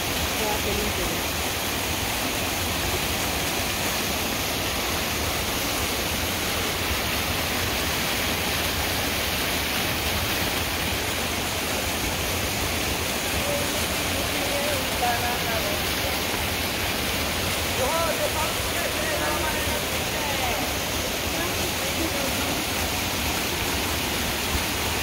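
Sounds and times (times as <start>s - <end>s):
waterfall splashing into pool: 0.0s - 25.0s.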